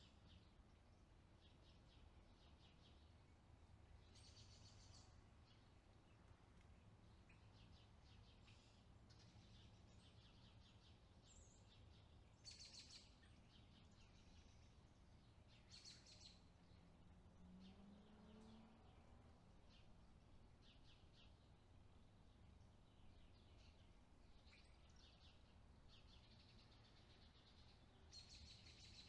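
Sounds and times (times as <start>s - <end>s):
low steady background noise: 0.0s - 29.0s.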